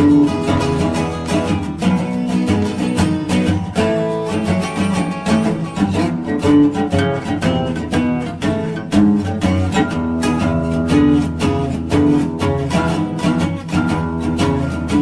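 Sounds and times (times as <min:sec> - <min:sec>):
blues acoustic guitar: 0:00.0 - 0:15.0.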